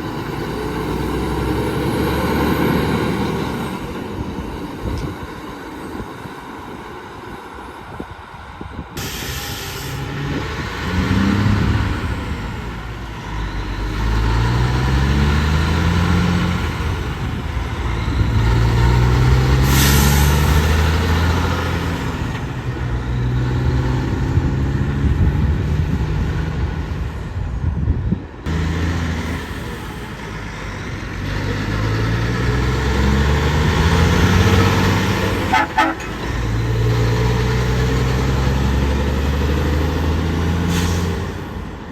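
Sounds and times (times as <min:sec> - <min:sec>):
diesel truck engine accelerating: 0:00.0 - 0:06.6, 0:08.0 - 0:41.9.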